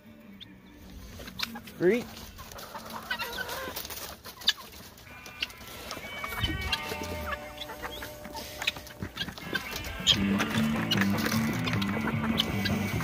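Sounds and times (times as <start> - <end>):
poultry clucking: 0.0 - 13.0.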